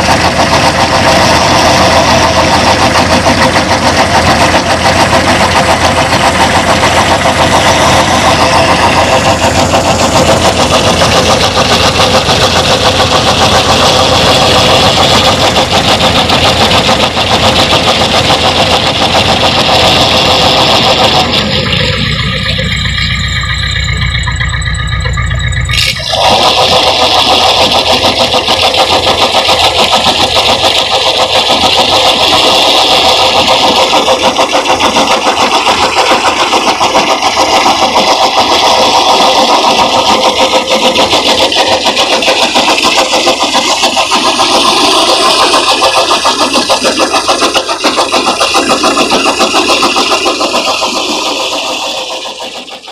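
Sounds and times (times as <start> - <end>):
tractor diesel engine pulsing: 0.0 - 52.9.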